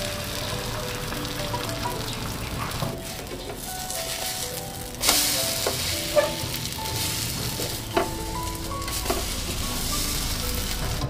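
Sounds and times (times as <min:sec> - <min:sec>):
french toast sizzling in frying pan: 0:00.0 - 0:11.0.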